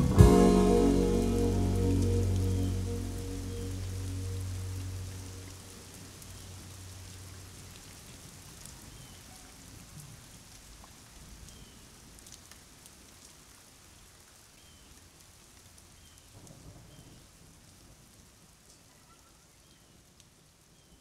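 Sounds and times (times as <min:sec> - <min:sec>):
steady rain patter: 0:00.0 - 0:21.0.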